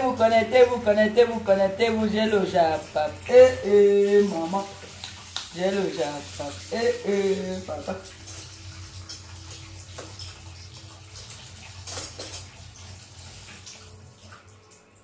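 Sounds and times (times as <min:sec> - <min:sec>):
water splashing in sink: 0:00.0 - 0:15.0.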